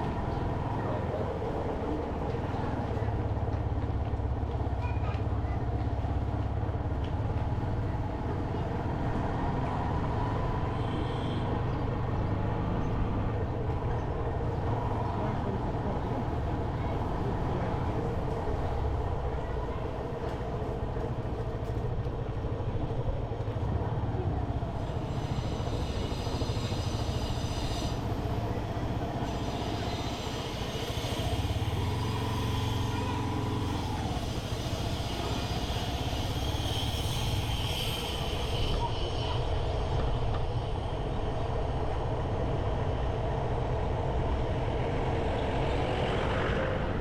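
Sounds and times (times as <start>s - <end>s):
road noise: 0.0s - 47.0s.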